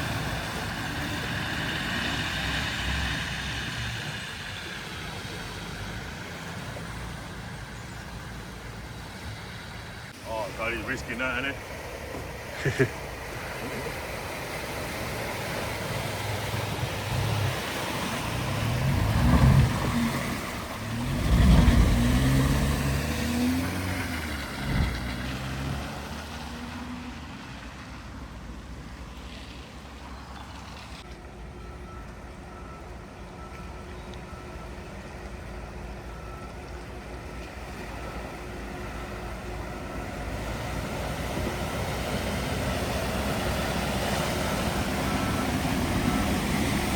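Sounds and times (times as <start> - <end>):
rushing water: 0.0 - 46.9
vehicle engine noise: 0.0 - 46.9.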